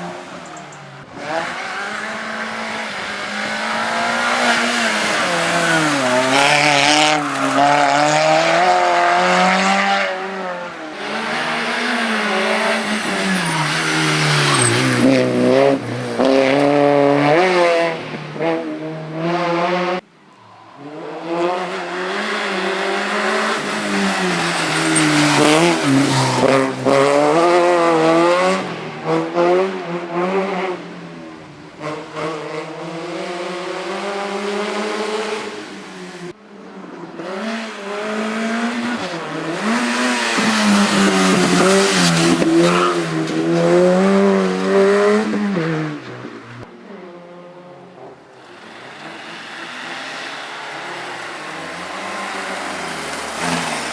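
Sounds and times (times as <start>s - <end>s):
race car engine revving: 1.0s - 20.0s, 20.8s - 30.8s, 37.2s - 46.1s, 47.0s - 53.9s.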